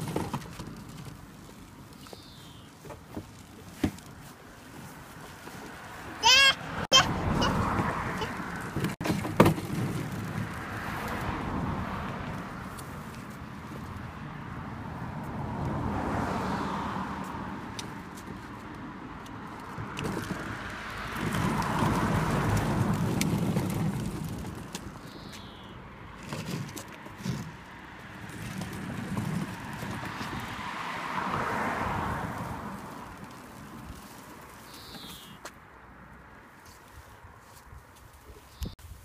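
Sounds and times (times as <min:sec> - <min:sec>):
plastic wheels rolling on pavement: 0:00.0 - 0:35.6.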